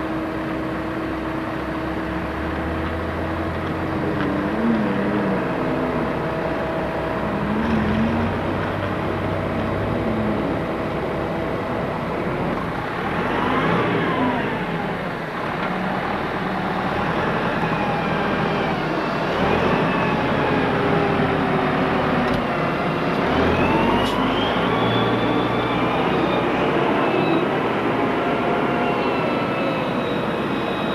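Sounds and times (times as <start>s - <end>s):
tractor engines running: 0.0s - 30.9s.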